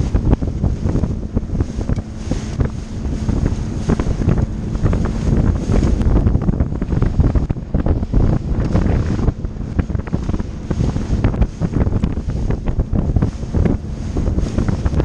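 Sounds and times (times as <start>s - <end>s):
hull thumping on waves: 0.0s - 15.0s
wind buffeting microphone: 0.0s - 15.0s.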